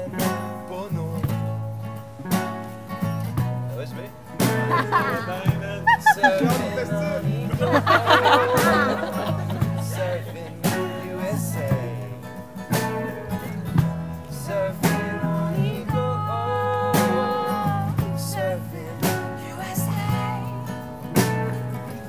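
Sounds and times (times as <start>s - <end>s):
acoustic guitar strumming: 0.0s - 22.0s
bass line: 0.0s - 22.0s.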